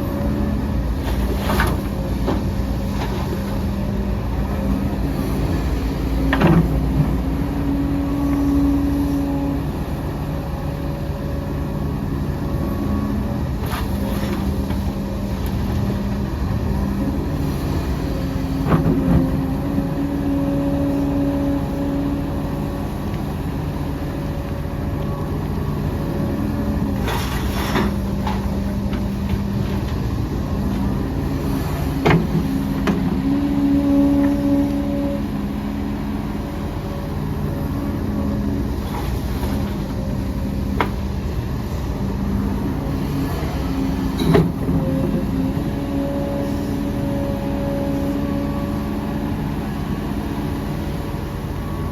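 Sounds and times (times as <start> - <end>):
diesel machinery engine: 0.0 - 51.9.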